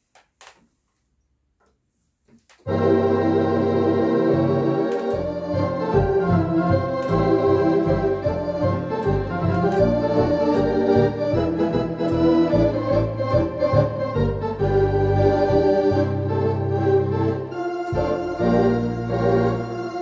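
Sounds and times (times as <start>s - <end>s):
electronic organ playing lively tune: 2.7s - 20.0s.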